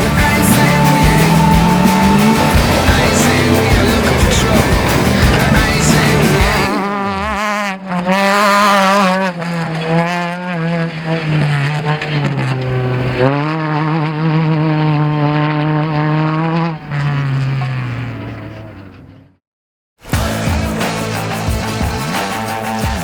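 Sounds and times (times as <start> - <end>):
race vehicle engine at high revs: 0.0 - 19.4, 20.2 - 23.0.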